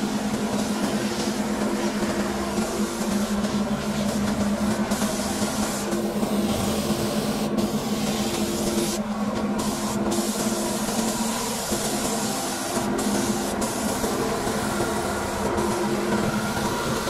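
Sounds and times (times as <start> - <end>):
spray gun hissing: 0.0 - 17.0
steady low hum: 0.0 - 17.0.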